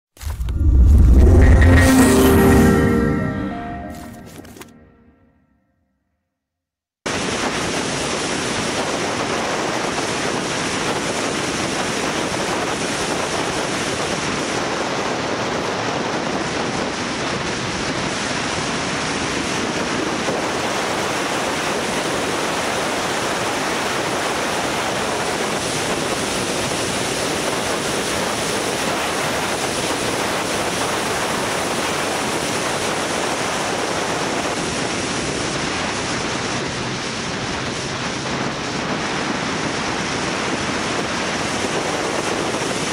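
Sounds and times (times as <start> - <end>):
wind rushing on microphone: 7.1 - 42.9.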